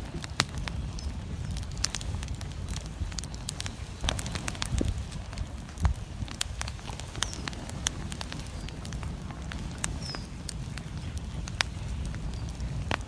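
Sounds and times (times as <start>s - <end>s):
steady low rumble: 0.0s - 13.0s
wood fire crackling and popping: 0.0s - 13.0s.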